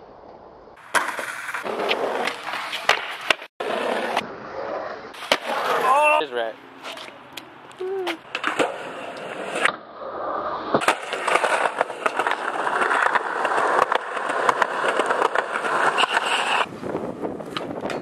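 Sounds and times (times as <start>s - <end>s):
skateboard wheels rolling on concrete: 0.0s - 18.0s
skateboard clack: 0.2s - 6.1s, 8.1s - 10.0s, 10.6s - 16.7s, 17.4s - 18.0s.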